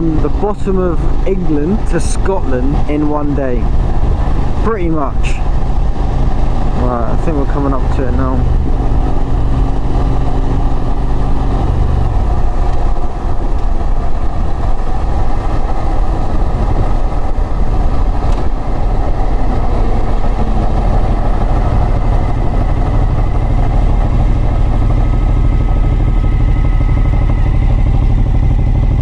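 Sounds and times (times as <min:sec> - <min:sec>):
motorbike engine rumble: 0:00.0 - 0:29.0
wind noise on microphone: 0:00.0 - 0:29.0.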